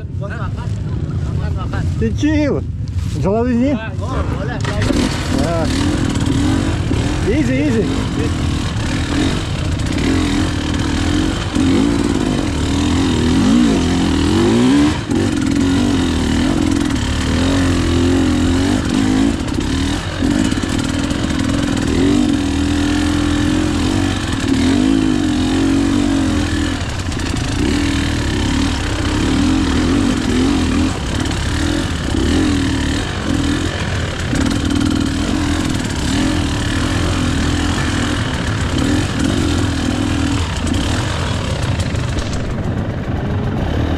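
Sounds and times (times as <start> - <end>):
motorbike engine revving: 4.2 - 43.9.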